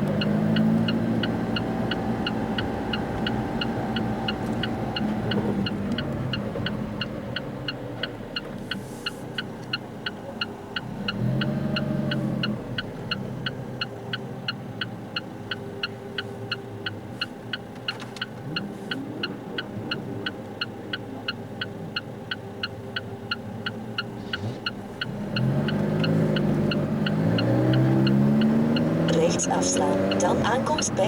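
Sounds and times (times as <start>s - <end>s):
car engine drone: 0.0s - 31.0s
turn signal ticking: 0.0s - 31.0s.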